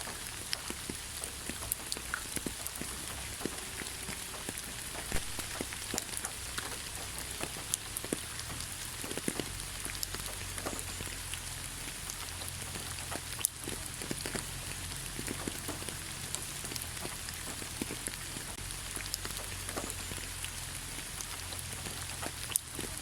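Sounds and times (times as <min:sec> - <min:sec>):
low steady rumble: 0:00.0 - 0:23.0
rain falling on leaves: 0:00.0 - 0:23.0.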